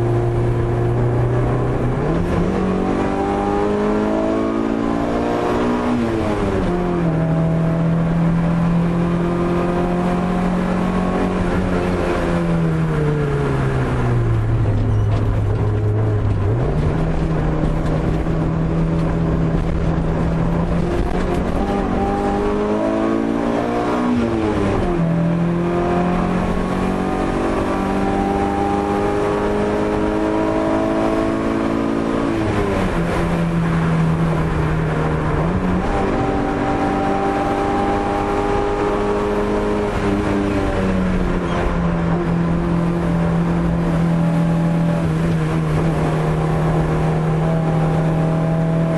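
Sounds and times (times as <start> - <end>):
car engine driven hard: 0.0 - 48.9.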